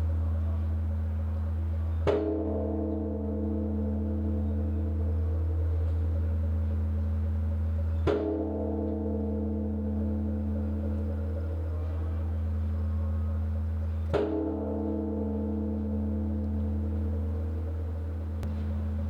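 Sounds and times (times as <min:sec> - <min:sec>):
deep bell hum: 0:00.0 - 0:19.0
large bronze bell tolling: 0:00.0 - 0:19.0.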